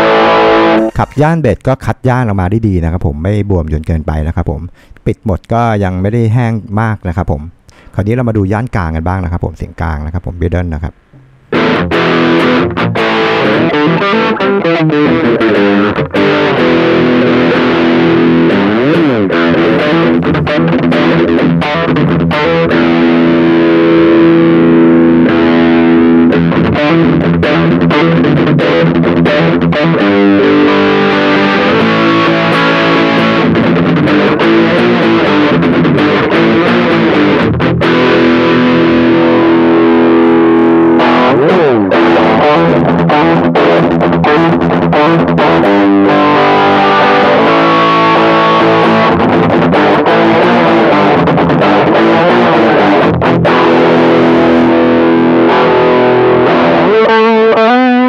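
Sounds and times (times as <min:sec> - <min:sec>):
distorted electric guitar: 0:00.0 - 0:02.6, 0:09.8 - 0:58.0.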